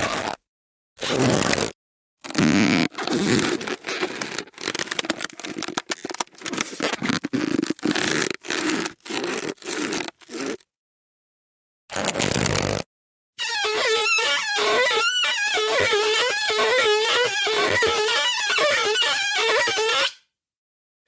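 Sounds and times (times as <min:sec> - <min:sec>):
balloon squeaking when rubbed: 0:00.0 - 0:00.4, 0:01.0 - 0:10.7, 0:11.9 - 0:20.2.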